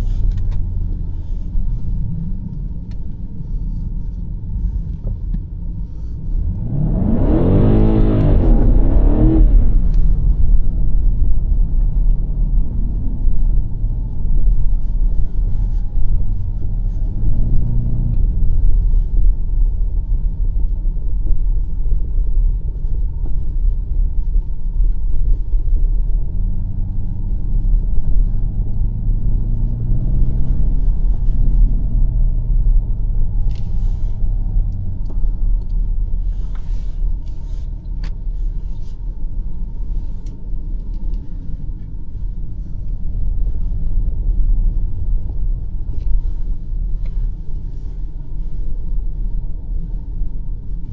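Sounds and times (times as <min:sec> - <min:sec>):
car engine rumbling: 0:00.0 - 0:50.9.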